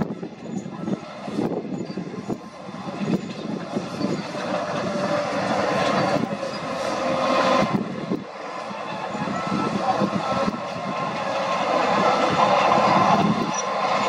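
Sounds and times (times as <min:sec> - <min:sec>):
bulldozer tracks clanking and squealing: 0:00.0 - 0:14.0
diesel engine running: 0:00.0 - 0:14.0
steady machine whine: 0:00.0 - 0:14.0.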